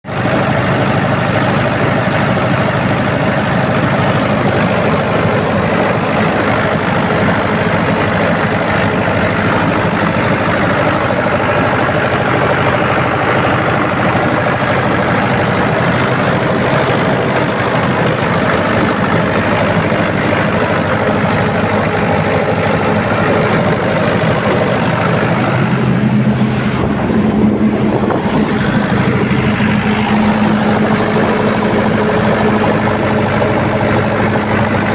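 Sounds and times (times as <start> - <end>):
generator engine running: 0.0 - 34.9
low hum: 3.4 - 34.9.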